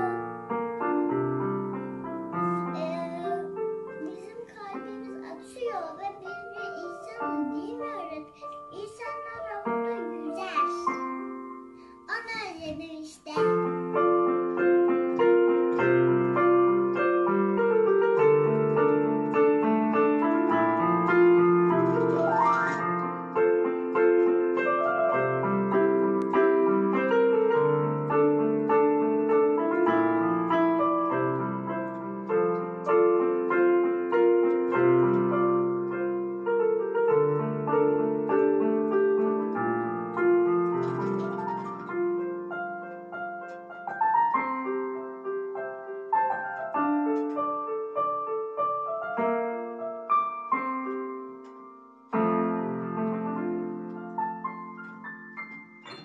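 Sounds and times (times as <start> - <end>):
solo piano music: 0.0 - 56.0.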